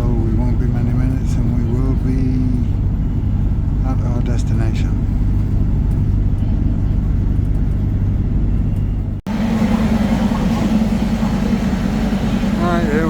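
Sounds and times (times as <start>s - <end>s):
steady hum: 0.0s - 13.0s
train carriage rumble: 0.0s - 13.0s.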